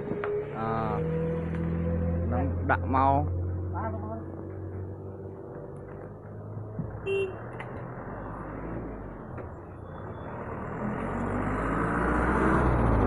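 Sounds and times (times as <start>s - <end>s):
truck engine and tyres: 0.0s - 13.0s.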